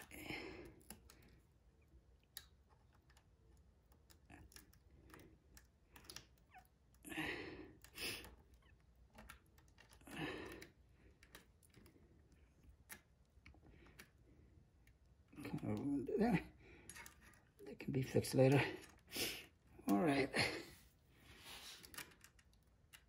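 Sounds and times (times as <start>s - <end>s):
small clicks and handling noise: 0.0s - 20.1s, 21.6s - 23.0s.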